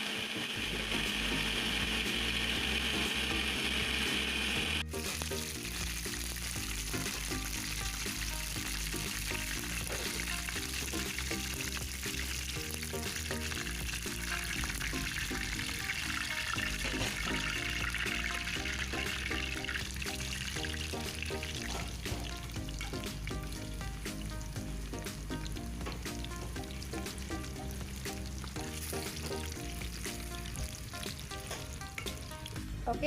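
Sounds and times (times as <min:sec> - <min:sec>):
background music: 0:00.0 - 0:33.0
hot oil sizzling: 0:00.0 - 0:33.0.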